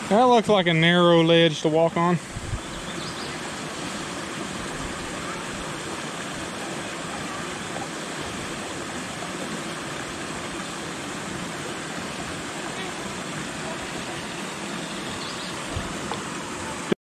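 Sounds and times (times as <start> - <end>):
creek pouring over rocks: 0.0 - 17.0.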